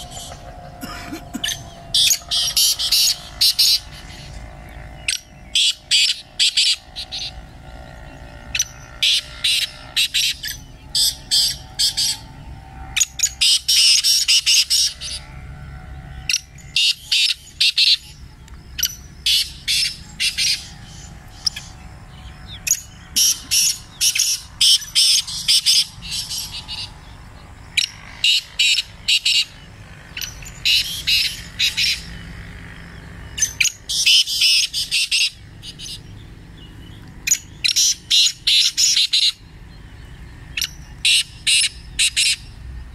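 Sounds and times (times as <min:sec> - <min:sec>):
francolins calling: 0:00.0 - 0:42.9.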